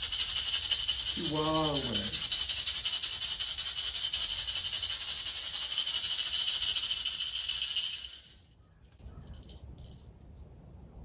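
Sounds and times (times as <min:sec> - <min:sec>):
hand rattle shaken: 0:00.0 - 0:10.1.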